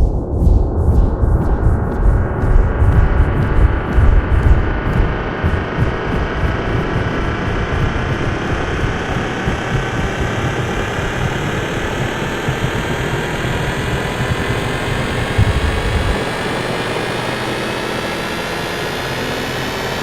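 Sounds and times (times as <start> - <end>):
rumbling rush power effect: 0.0 - 17.2.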